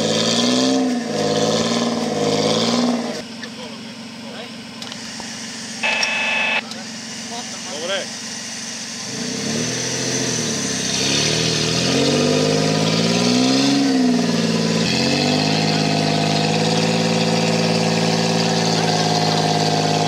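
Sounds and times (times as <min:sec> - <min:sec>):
buggy engine revving: 0:00.0 - 0:20.0.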